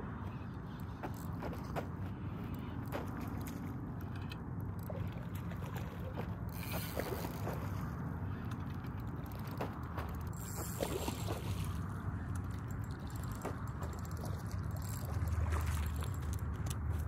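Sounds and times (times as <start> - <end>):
fishing reel ticking and whirring: 0.2 - 17.0.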